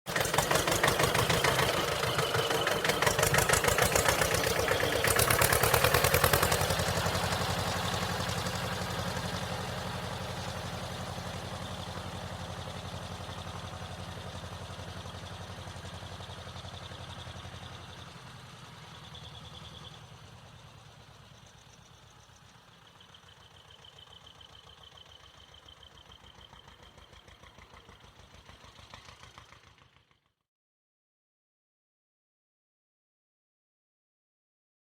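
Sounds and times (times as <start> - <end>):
tractor engine revving and chugging: 0.1 - 30.2.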